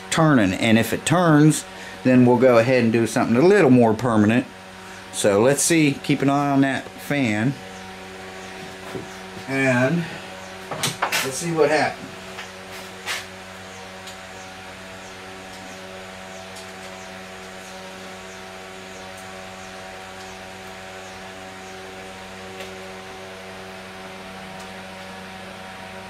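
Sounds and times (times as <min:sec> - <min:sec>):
electrical hum: 0:00.0 - 0:26.0
fan whir: 0:00.0 - 0:26.0.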